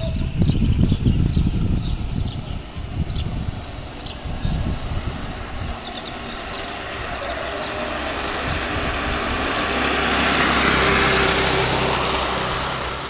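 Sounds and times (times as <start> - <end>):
motorcycle passing: 0.0 - 13.0.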